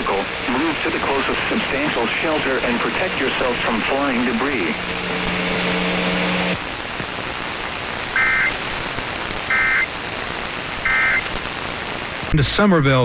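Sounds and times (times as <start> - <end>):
steady hum: 0.0 - 12.3
radio hiss: 0.0 - 13.0.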